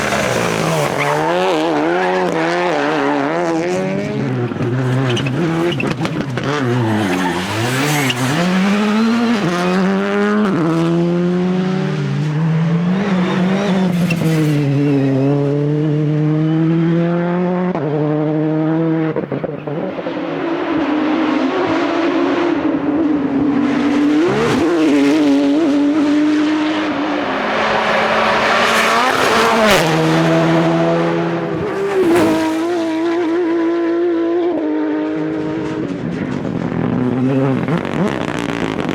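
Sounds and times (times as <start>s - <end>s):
rally car engine upshifting: 0.0s - 38.9s.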